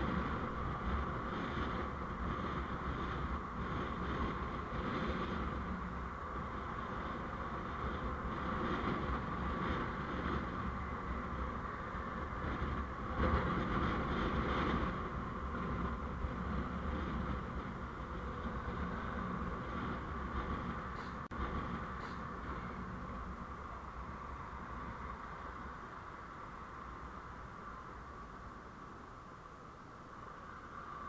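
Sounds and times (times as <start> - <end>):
vehicle running and road noise: 0.0 - 31.0.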